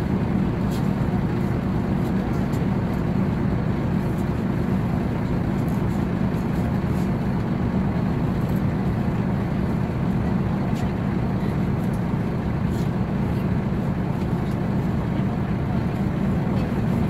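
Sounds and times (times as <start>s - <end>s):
diesel coach engine rumbling: 0.0s - 17.0s.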